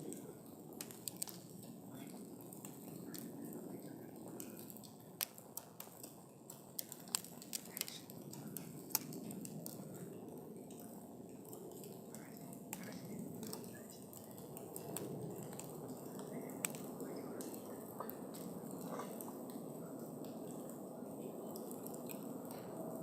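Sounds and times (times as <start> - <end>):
burning wood crackling and popping: 0.0 - 23.0
campfire flames rushing: 0.0 - 23.0.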